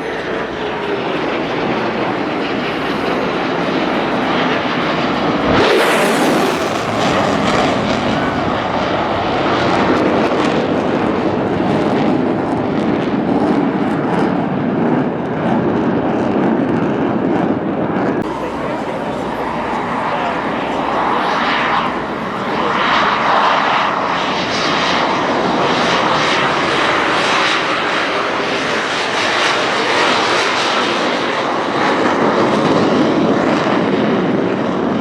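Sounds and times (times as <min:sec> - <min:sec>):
airplane engine flying past: 0:00.0 - 0:35.0.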